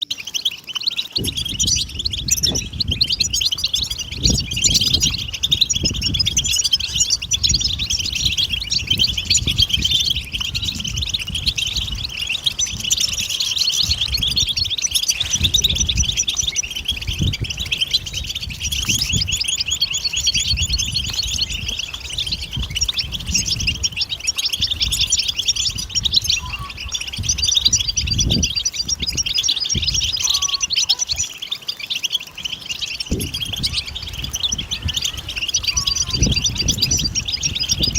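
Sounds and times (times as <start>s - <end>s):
finch twittering song: 0.0s - 37.9s.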